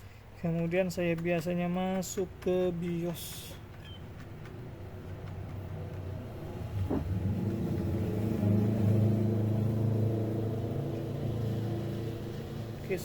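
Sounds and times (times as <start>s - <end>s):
vehicle engine humming: 2.0s - 13.0s.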